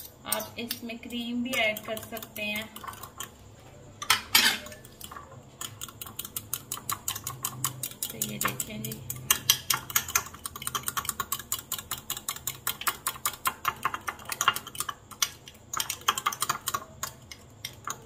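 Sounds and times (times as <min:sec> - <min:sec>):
spoon clicking against glass bowl: 0:00.0 - 0:03.3, 0:04.0 - 0:18.0.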